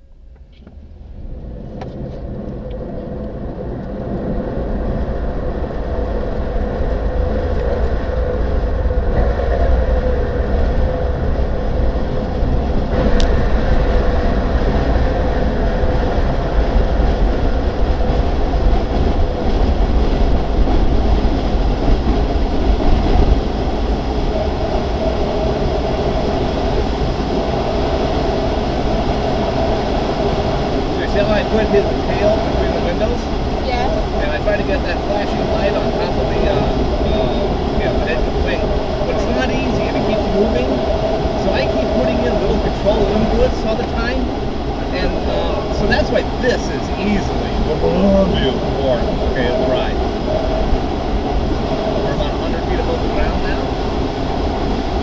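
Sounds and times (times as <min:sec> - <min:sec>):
plane engine drone: 0:00.0 - 0:55.0
rushing air: 0:00.0 - 0:55.0
wheel rumbling on runway: 0:00.0 - 0:55.0.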